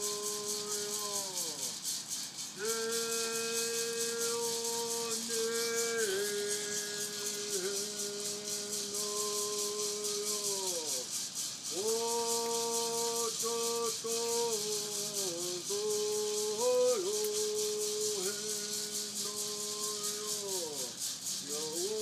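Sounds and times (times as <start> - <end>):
man singing long notes: 0.0 - 1.8, 2.6 - 22.0
hand rattle shaking: 0.0 - 22.0.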